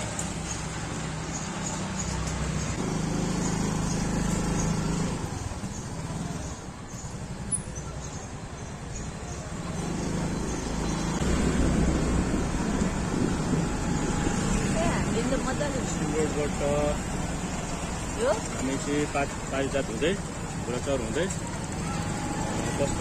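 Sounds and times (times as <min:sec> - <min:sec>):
road and wind noise: 0:00.0 - 0:23.0
scooter engine running: 0:00.4 - 0:23.0.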